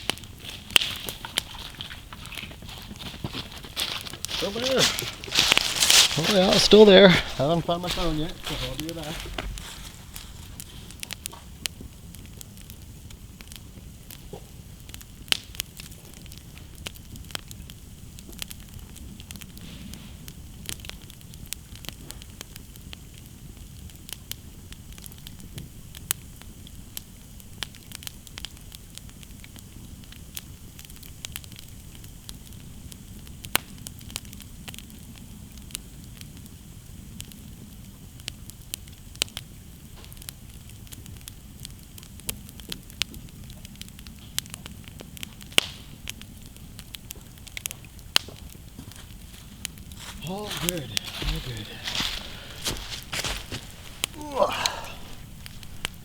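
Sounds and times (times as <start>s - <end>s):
fire crackles and pops: 0.0s - 56.0s
low rush of flames: 0.0s - 56.0s.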